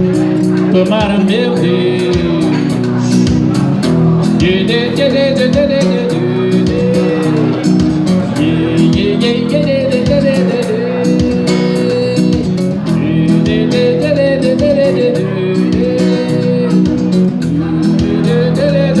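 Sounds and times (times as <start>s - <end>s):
band playing popular music: 0.0s - 19.0s
guitar over steady beat: 0.0s - 19.0s.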